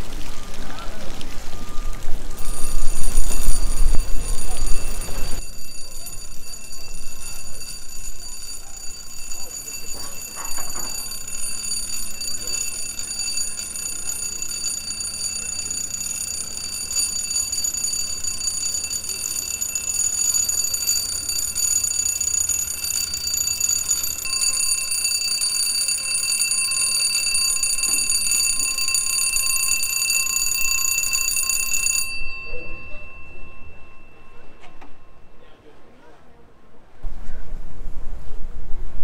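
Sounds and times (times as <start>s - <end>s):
electric warning bell ringing: 2.3s - 35.4s.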